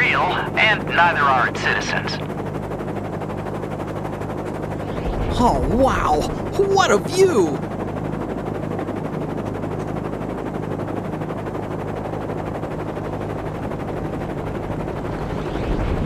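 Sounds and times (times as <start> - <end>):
helicopter engine drone: 0.0 - 6.9, 7.6 - 15.7.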